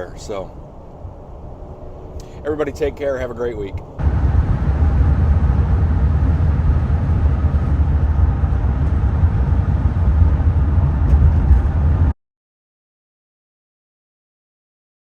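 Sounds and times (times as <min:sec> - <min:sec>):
van road rumble: 0:00.0 - 0:12.2.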